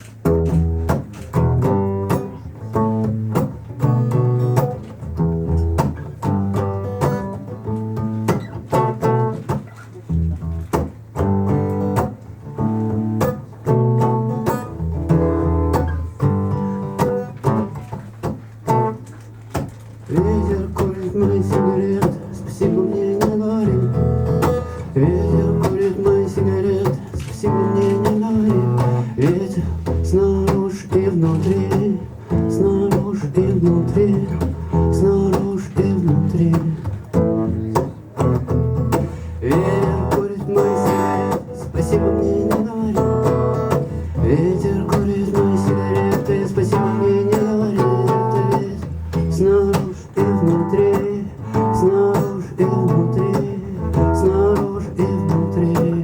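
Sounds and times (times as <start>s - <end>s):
plucked acoustic guitar: 0.0s - 56.0s.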